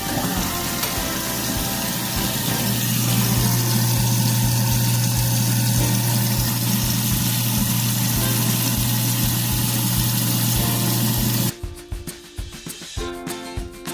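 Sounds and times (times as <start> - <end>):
garbage disposal motor humming: 0.0 - 11.5
water running: 0.0 - 11.6.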